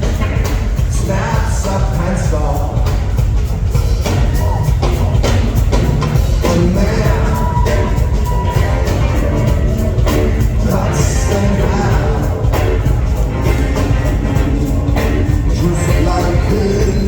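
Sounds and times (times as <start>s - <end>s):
heavy bass and drum groove: 0.0s - 17.0s
live rock band: 0.0s - 17.0s.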